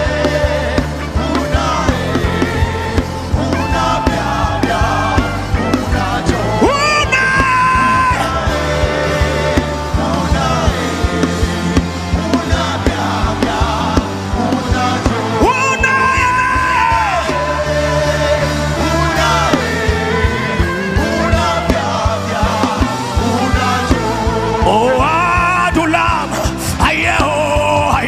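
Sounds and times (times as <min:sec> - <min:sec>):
sustained low chords: 0:00.0 - 0:26.0
steady drum beat: 0:00.0 - 0:28.0.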